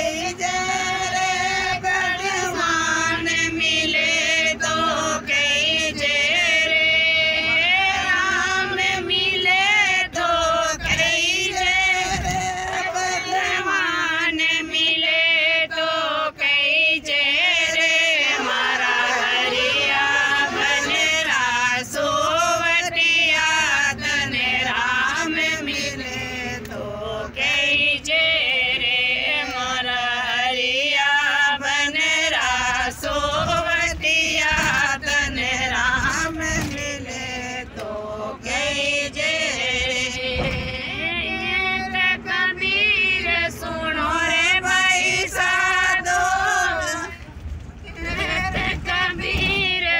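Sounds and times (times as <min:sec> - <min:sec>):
woman singing devotional song: 0:00.0 - 0:49.9.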